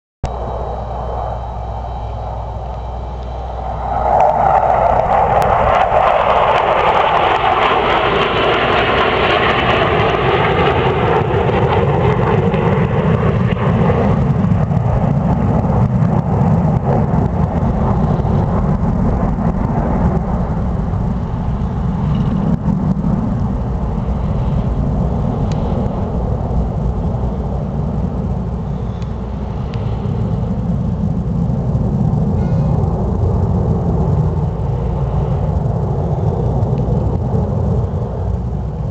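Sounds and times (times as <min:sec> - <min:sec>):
jet engines roaring overhead: 0:00.2 - 0:38.9.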